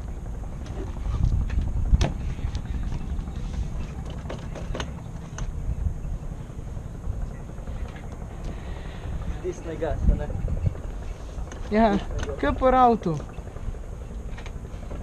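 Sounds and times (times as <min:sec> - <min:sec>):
go-kart engines rumbling: 0:00.0 - 0:15.0.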